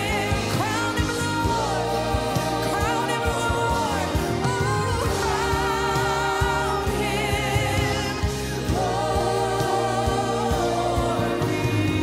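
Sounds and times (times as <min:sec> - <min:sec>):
backing singers: 0:00.0 - 0:12.0
band accompanying: 0:00.0 - 0:12.0
woman singing with vibrato: 0:00.0 - 0:12.0.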